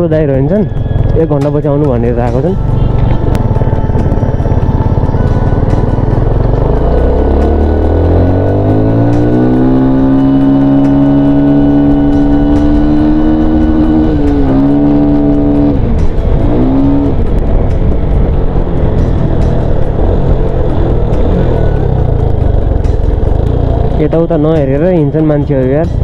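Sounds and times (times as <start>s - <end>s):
motorcycle engine revving: 0.0s - 26.0s
wind rumble on microphone: 2.2s - 25.3s.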